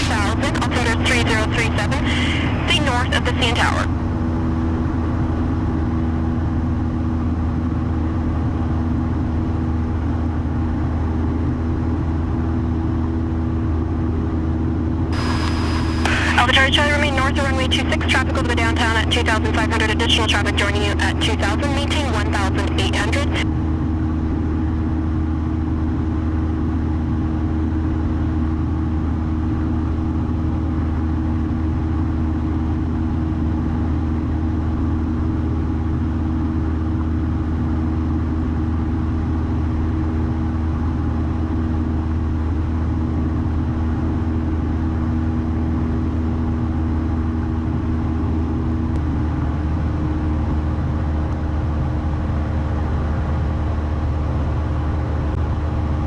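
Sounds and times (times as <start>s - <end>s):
small plane engine droning: 0.0s - 56.0s.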